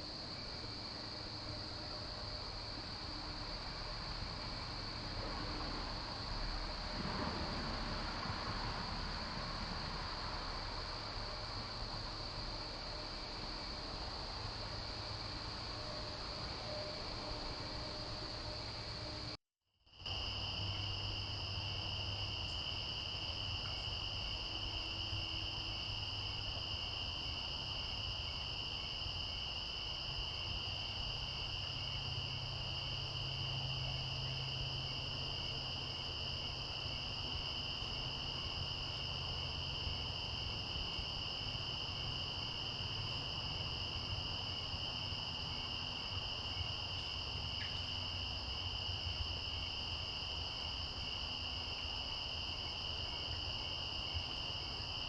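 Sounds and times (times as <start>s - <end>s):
pulsing insect call: 0.0s - 19.4s, 20.0s - 55.0s
crickets trilling: 0.0s - 55.0s.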